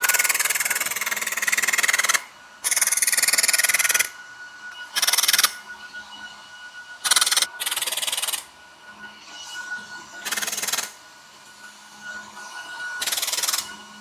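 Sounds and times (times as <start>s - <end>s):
faint steady high tone: 0.0s - 14.0s.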